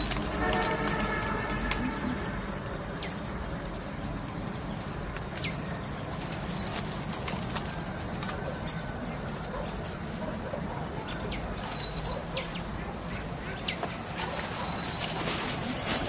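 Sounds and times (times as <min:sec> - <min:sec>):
insects shrilling: 0:00.0 - 0:16.0
low rumbling background noise: 0:00.0 - 0:16.0.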